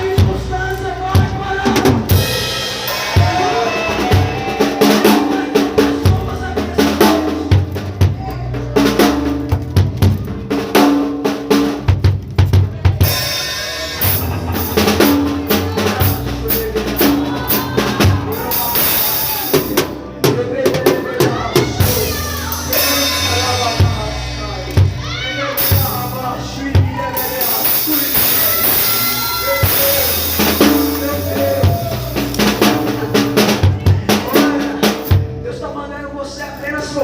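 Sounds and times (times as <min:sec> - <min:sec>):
band music with drum kit: 0:00.0 - 0:35.7.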